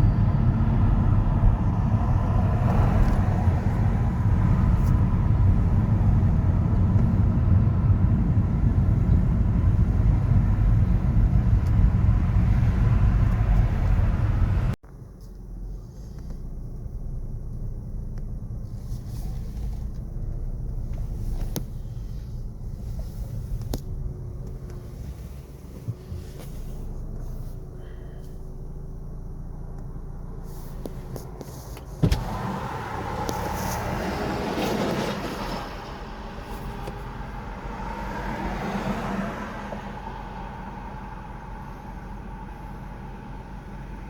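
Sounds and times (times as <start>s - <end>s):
city traffic rumble: 0.0s - 44.0s.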